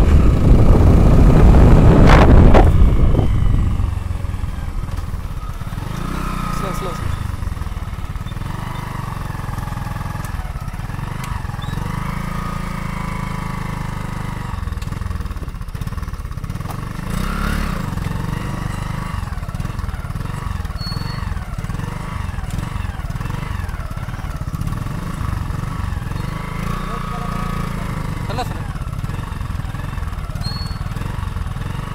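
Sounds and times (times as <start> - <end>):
vehicle engine droning: 0.0 - 31.9.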